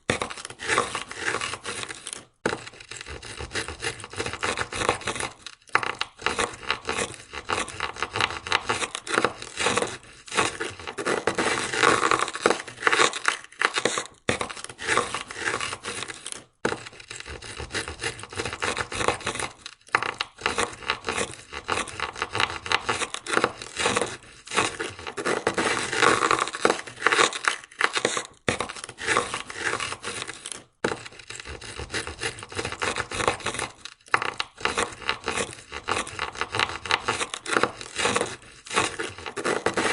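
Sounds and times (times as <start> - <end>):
ice scraper scraping car window: 0.0 - 39.9.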